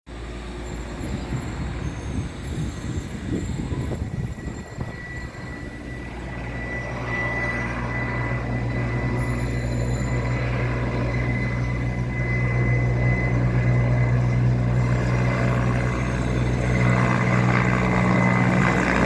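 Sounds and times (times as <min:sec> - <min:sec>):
aircraft engine running: 0:00.1 - 0:19.0.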